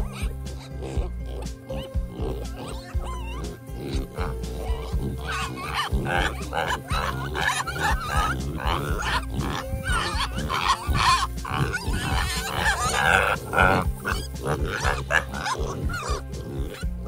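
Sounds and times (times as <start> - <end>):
background music: 0.0 - 17.0
pigs grunting and squealing: 0.0 - 17.0.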